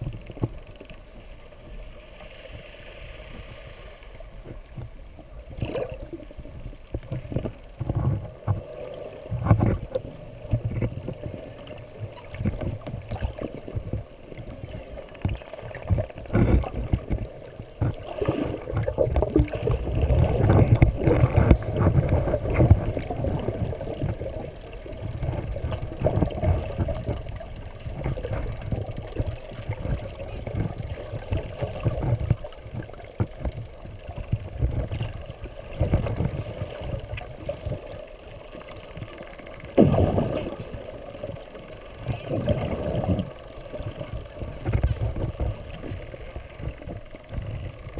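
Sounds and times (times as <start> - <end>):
low rumble of water noise: 0.0 - 47.9
dolphins whistling underwater: 0.5 - 4.6, 7.0 - 47.9.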